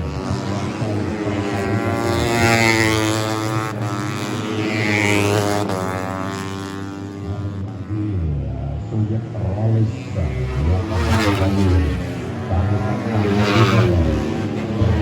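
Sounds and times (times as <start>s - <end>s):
motorcycles racing at high revs: 0.0s - 15.0s.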